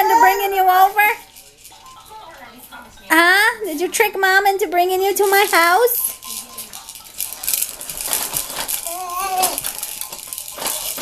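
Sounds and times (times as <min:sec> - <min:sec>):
baby jumper rattling and clicking: 0:00.0 - 0:03.2, 0:03.8 - 0:11.0.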